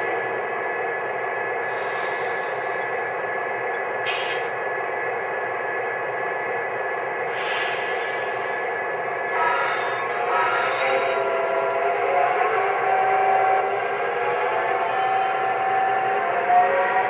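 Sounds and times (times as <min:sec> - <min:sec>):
thin steady whine: 0:00.0 - 0:17.0.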